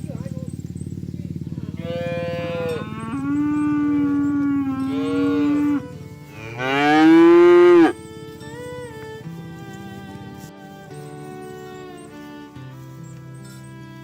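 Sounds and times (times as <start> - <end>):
cows mooing: 0.0 - 14.0.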